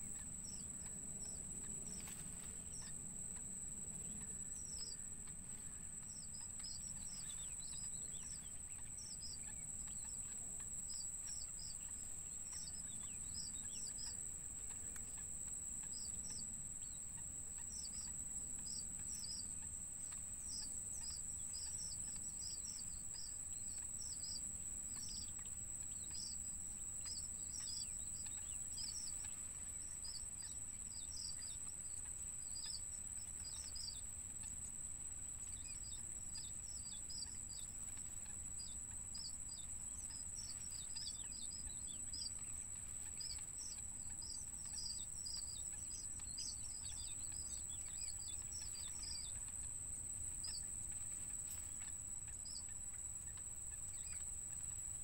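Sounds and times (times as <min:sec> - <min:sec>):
birds chirping: 0:00.0 - 0:55.0
steady high-pitched whine: 0:00.0 - 0:55.0.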